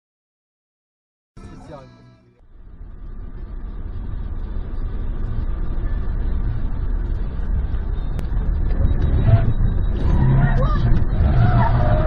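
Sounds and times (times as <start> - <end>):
road noise: 1.4 - 12.0
vehicle engine rumble: 1.4 - 12.0.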